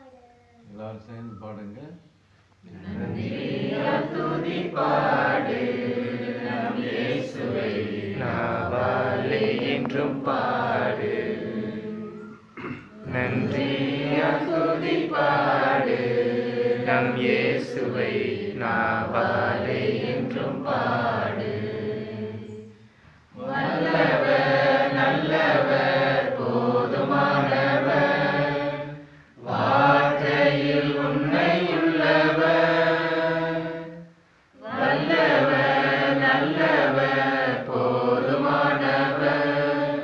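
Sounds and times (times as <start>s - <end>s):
group chanting in unison: 2.6s - 40.0s.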